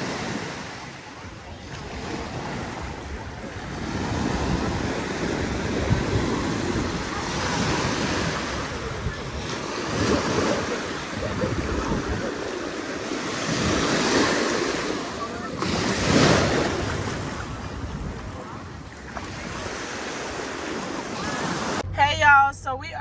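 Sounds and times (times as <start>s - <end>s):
surf washing onto beach: 0.0s - 21.8s
wind on microphone: 0.0s - 22.0s.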